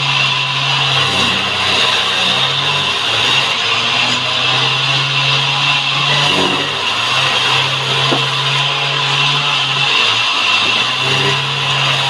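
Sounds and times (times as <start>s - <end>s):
band saw blade rasping through log: 0.0s - 12.0s
low hum of saw drive: 0.0s - 12.0s.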